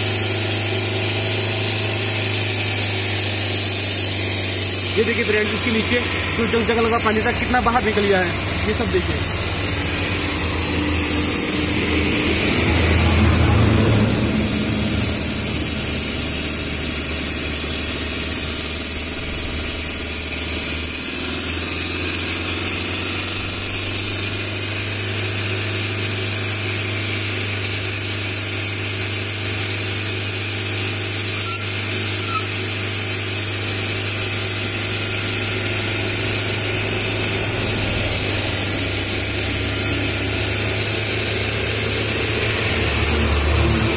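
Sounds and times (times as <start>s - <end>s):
car engine idling: 0.0s - 27.0s, 33.6s - 43.9s.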